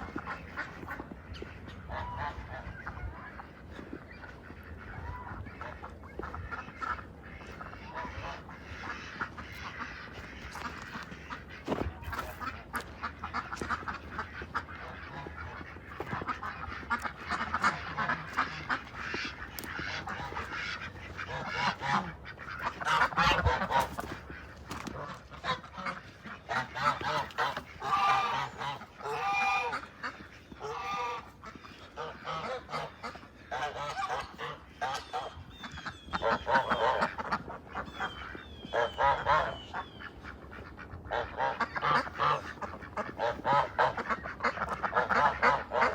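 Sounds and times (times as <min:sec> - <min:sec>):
waterfowl honking and quacking: 0:00.0 - 0:45.9.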